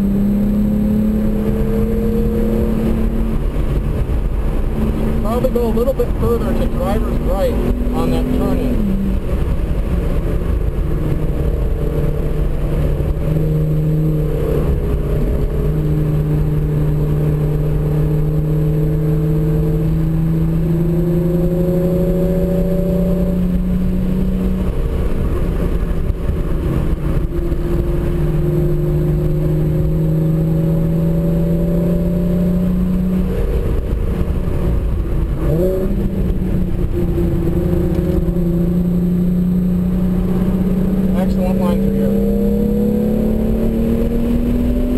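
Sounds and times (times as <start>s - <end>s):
car engine accelerating: 0.0s - 44.9s
road and wind noise: 0.0s - 44.9s.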